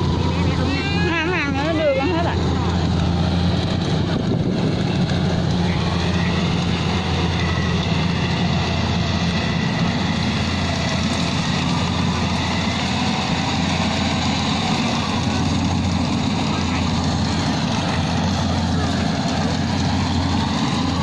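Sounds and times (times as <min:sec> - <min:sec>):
harvester engine humming: 0:00.0 - 0:21.0.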